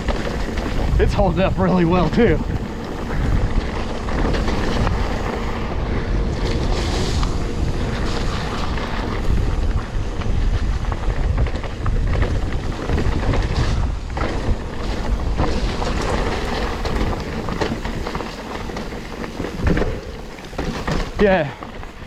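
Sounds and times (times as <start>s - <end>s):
bike clattering over roots: 0.0s - 22.0s
bike tyre noise: 0.0s - 22.0s
wind rush on microphone: 0.0s - 22.0s.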